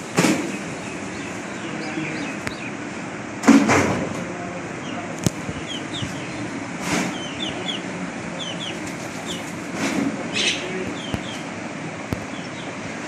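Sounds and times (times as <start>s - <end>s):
small birds chirping: 0.0s - 3.0s, 4.4s - 13.0s.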